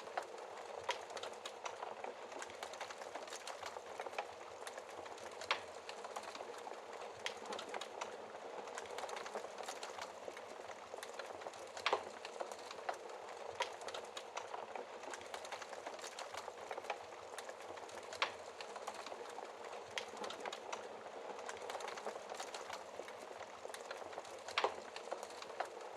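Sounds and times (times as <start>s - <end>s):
fire crackling hiss: 0.0s - 25.9s
fire pops and snaps: 0.0s - 25.9s.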